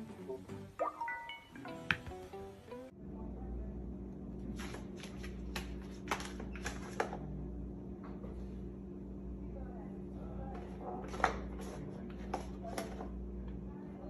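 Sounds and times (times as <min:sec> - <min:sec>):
low steady hum: 0:02.4 - 0:14.0.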